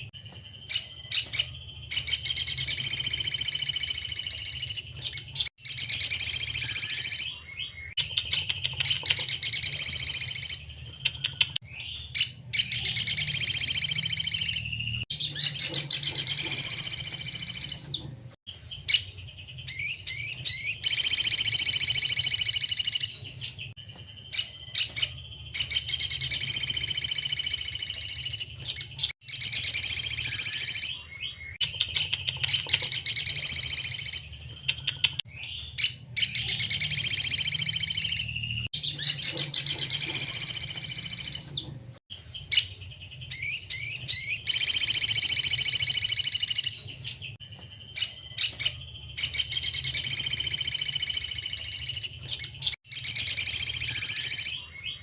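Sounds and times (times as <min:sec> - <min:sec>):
bird chirps: 0:00.0 - 0:55.0
bird twittering song: 0:00.0 - 0:55.0.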